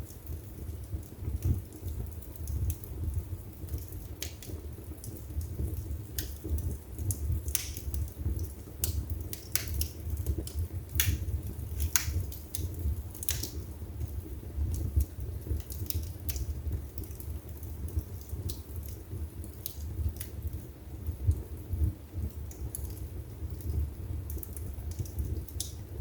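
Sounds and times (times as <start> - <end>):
burning logs crackling and popping: 0.0 - 26.0
low rumble of flames: 0.0 - 26.0.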